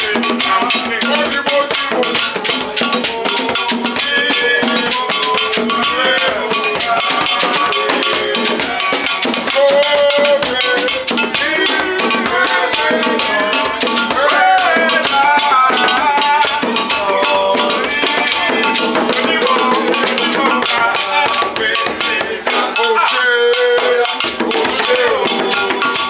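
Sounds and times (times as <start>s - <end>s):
music with drums and percussion: 0.0s - 26.0s.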